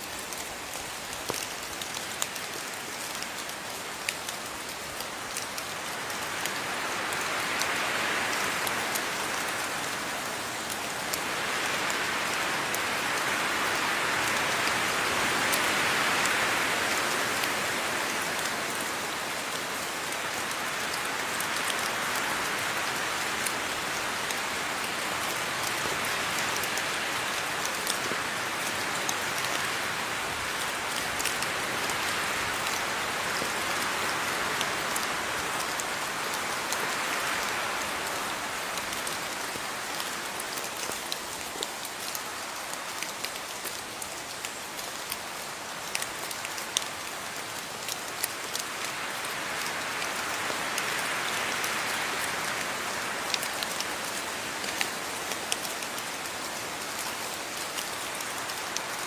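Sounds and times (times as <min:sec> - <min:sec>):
rain falling: 0:00.0 - 0:59.0
raindrops ticking on a surface: 0:00.0 - 0:59.0.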